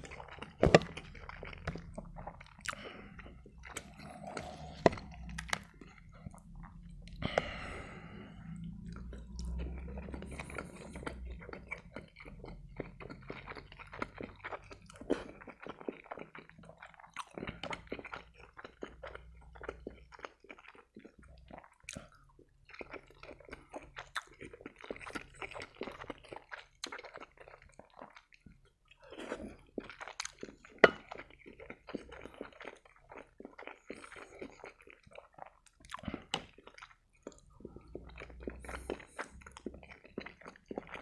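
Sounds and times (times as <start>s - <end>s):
chewing with mouth clicks: 0.0s - 41.0s.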